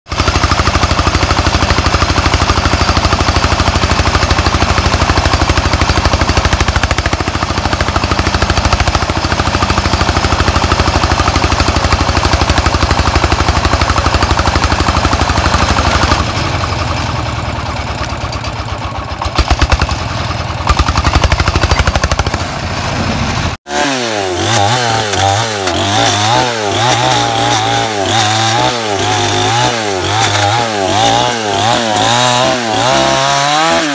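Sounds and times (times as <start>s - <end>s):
diesel engine running: 0.1s - 33.8s
chainsaw revving: 0.1s - 33.9s.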